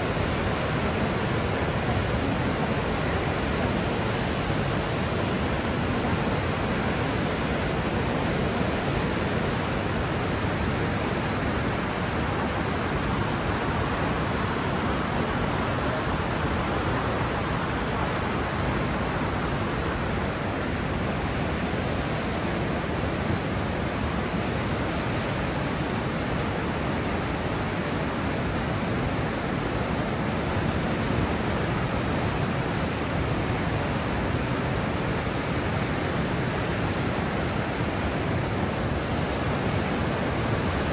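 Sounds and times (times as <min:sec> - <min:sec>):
whitewater rapids rushing: 0:00.0 - 0:40.9.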